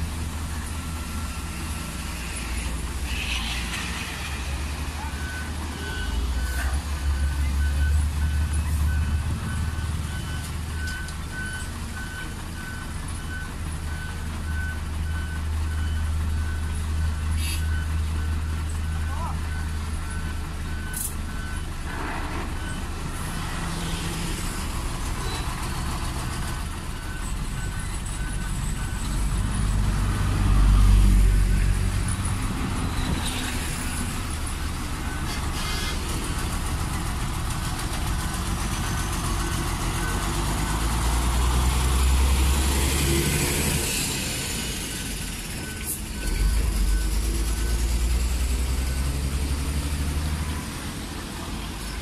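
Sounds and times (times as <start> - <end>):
diesel engines running: 0.0 - 52.0
passing road vehicles: 0.0 - 52.0.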